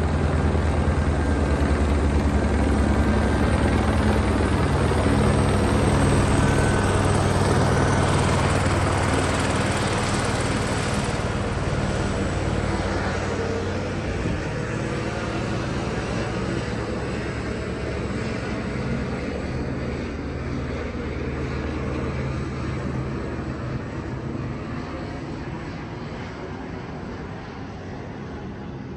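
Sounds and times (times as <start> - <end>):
helicopter flying overhead: 0.0 - 28.9.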